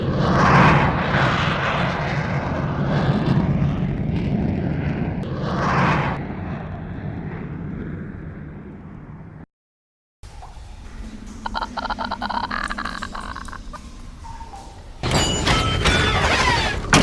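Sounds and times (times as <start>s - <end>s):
deep engine rumble: 0.0s - 9.5s, 10.2s - 15.4s.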